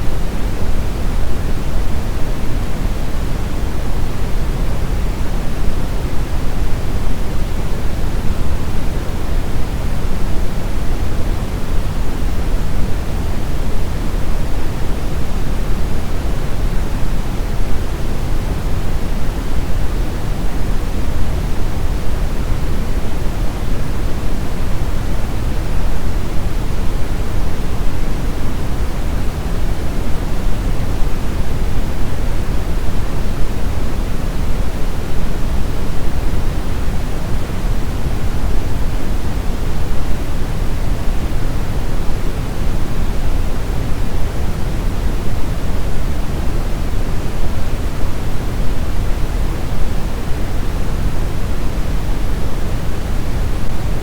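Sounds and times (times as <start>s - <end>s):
brown noise rumbling hiss: 0.0s - 54.0s.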